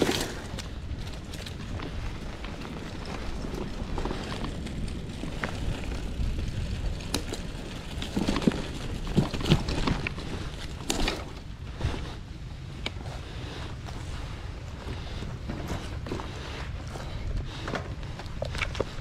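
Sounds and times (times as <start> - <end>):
bike rolling over rough ground: 0.0 - 19.0.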